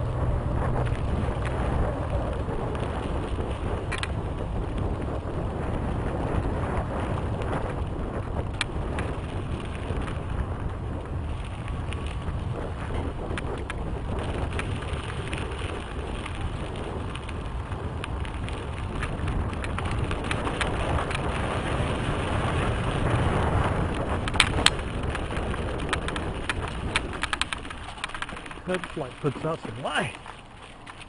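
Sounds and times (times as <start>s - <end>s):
bike clicks and rattles: 0.0s - 31.0s
tyres rolling over dirt: 0.0s - 31.0s
wind rushing over microphone: 0.0s - 31.0s.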